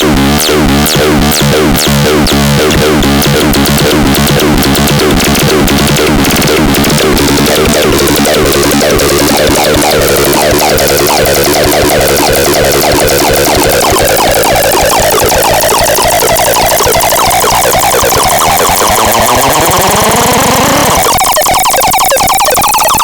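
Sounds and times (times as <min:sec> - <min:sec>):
electronic siren warbling: 0:01.8 - 0:23.0.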